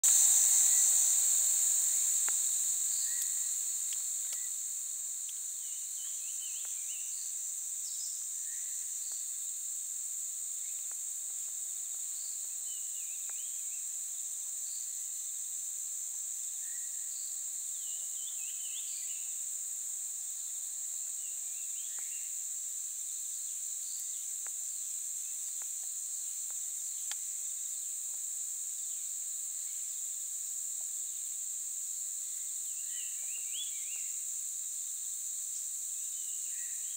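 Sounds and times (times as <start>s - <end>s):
insect chorus: 0.0s - 36.9s.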